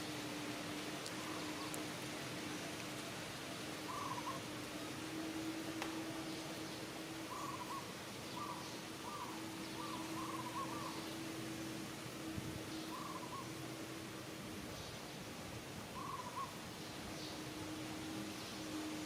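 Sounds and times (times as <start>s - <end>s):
low steady hum: 0.0s - 19.0s
wavering cooing calls: 0.0s - 19.0s.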